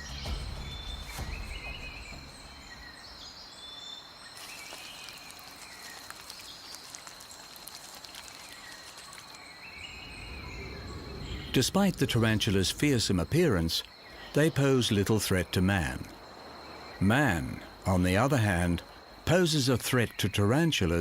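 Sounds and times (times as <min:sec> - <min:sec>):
insect chirping calls: 0:00.0 - 0:21.0.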